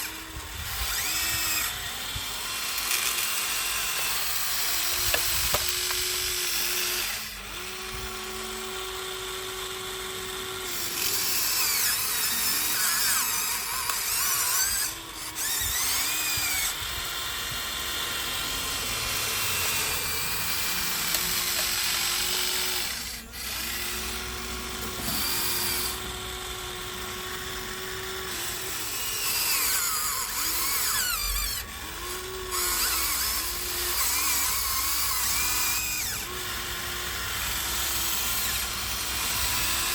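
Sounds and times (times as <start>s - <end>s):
small electric motors whining: 0.0s - 39.9s.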